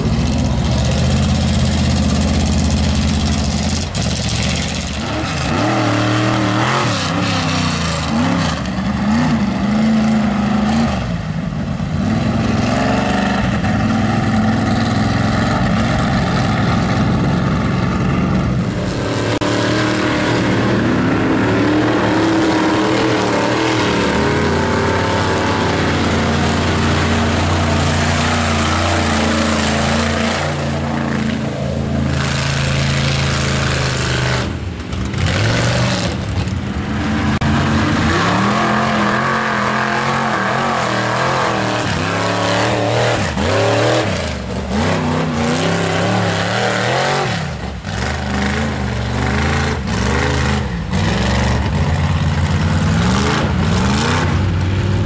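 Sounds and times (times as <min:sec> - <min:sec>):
truck engines revving hard: 0:00.0 - 0:55.0.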